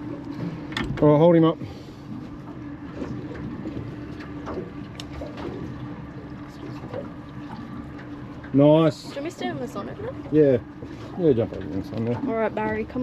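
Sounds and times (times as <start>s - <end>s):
steady low hum: 0.0s - 13.0s
water lapping against hull: 0.0s - 13.0s.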